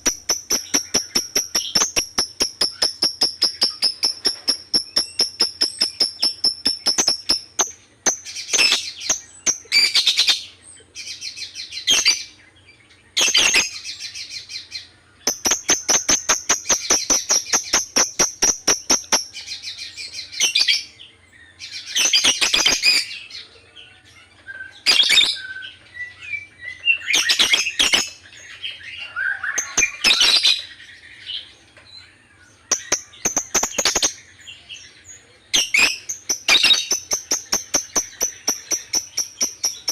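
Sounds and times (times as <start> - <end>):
lovebird chirping: 0.0 - 39.9
shrill chattering bird calls: 0.0 - 39.9.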